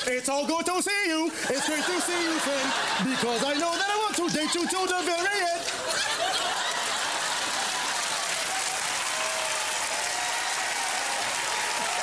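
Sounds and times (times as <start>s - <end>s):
audience applauding: 1.5s - 12.0s.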